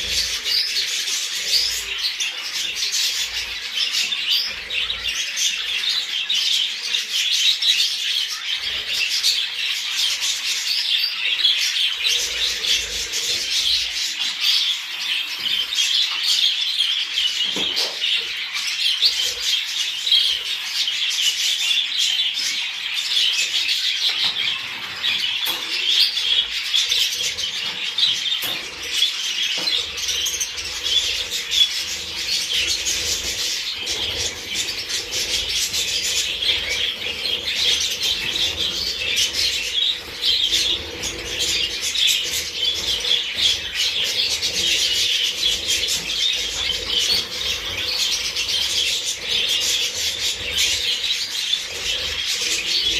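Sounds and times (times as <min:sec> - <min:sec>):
budgerigars chattering and warbling: 0:00.0 - 0:52.9.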